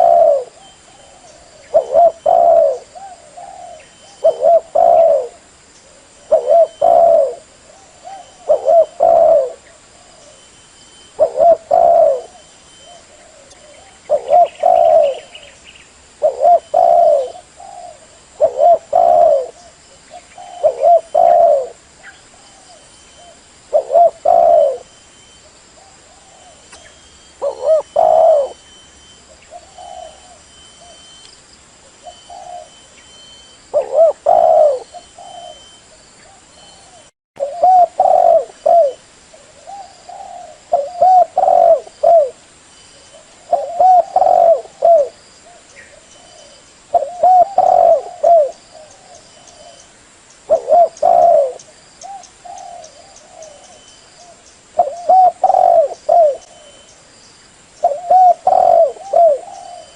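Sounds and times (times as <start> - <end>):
dove cooing: 0.0 - 15.6, 16.2 - 31.2, 31.9 - 42.4, 43.0 - 49.9, 50.5 - 56.9, 57.8 - 59.9.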